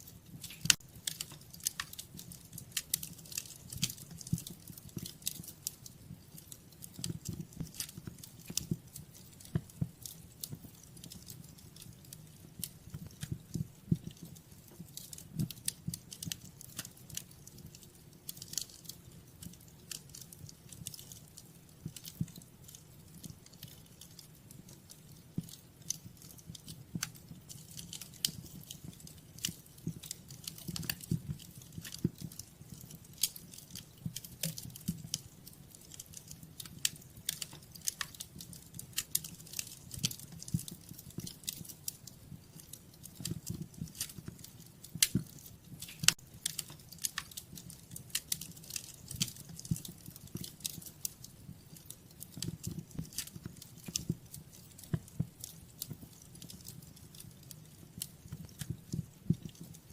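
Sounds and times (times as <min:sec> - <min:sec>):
low rumble of burning: 0:00.0 - 0:59.9
wood fire crackling and popping: 0:00.0 - 0:59.9.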